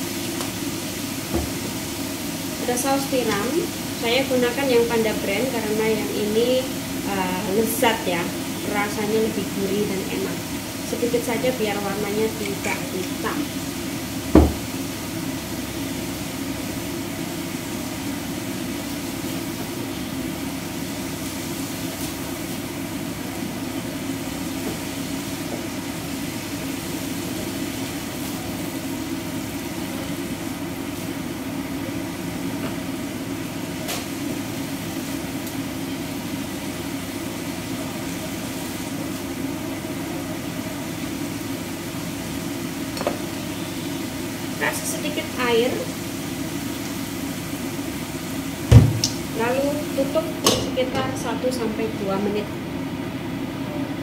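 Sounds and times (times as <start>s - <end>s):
meat frying in a pan: 0.0s - 53.6s.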